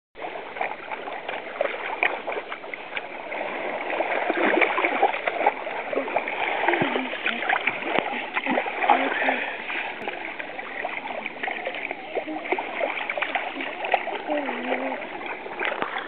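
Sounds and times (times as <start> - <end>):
shallow sea water splashing: 0.2 - 16.0.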